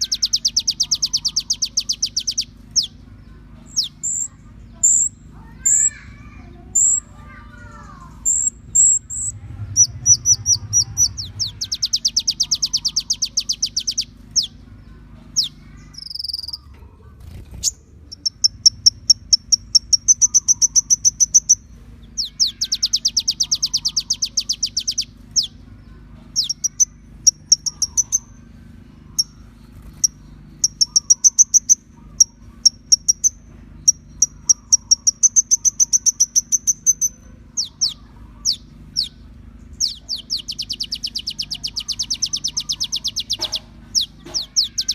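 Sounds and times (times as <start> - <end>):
bird chirps and buzzing trills: 0.0 - 44.9
steady low hum: 0.0 - 44.9.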